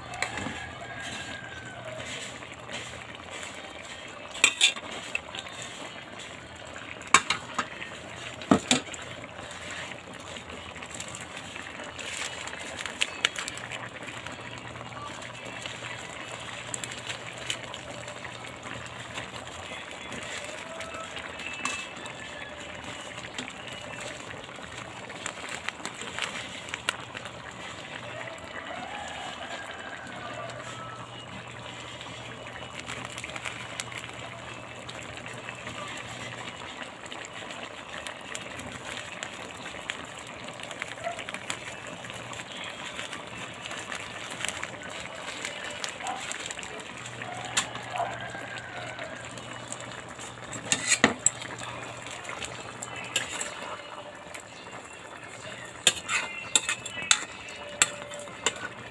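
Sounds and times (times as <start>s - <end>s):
stew simmering in a wok: 0.0s - 58.9s.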